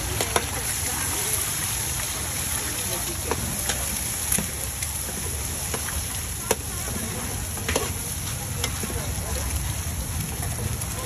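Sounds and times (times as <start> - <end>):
eggs sizzling in oil: 0.0 - 11.0.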